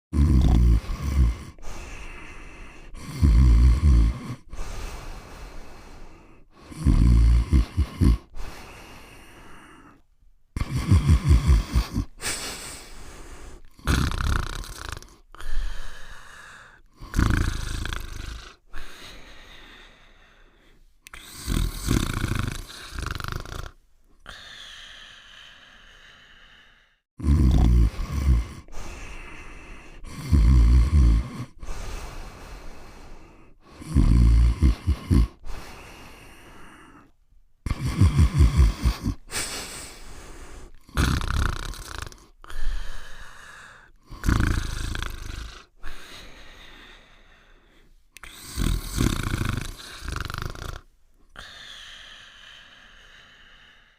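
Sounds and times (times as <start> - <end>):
cartoon dog snoring: 0.1 - 5.9, 6.5 - 10.0, 10.6 - 19.0, 21.1 - 24.7, 27.2 - 37.1, 37.7 - 46.3, 48.2 - 51.7.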